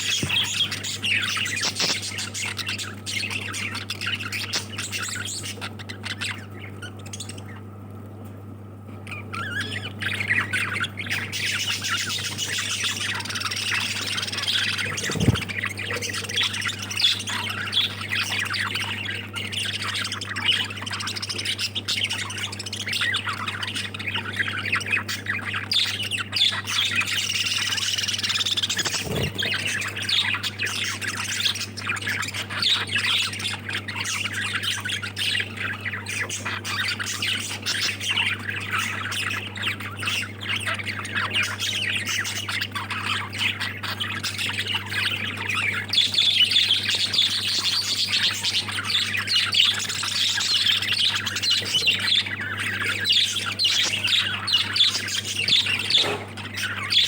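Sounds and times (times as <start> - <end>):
lovebirds chattering and squawking: 0.0 - 57.0.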